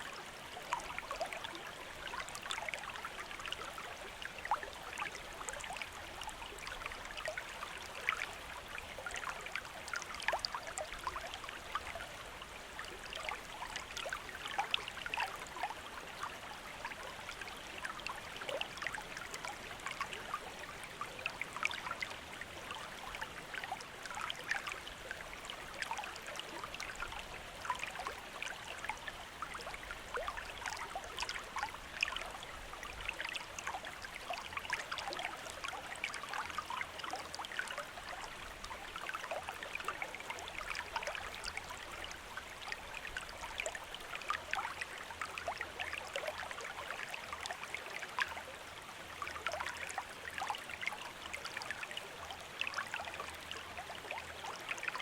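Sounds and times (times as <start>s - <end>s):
stream running: 0.0s - 55.0s
water trickling and splashing: 0.0s - 55.0s.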